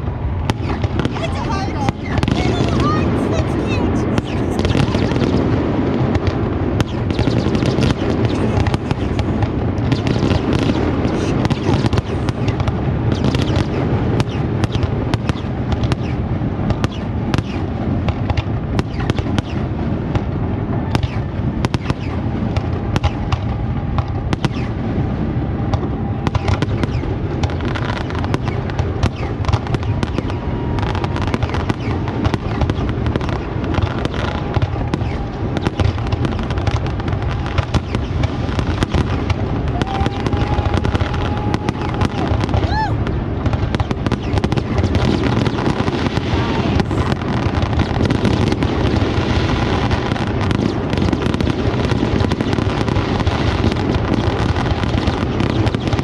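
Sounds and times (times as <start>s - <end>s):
deep firework booms: 0.0s - 56.0s
firework cracks and bangs: 0.0s - 56.0s.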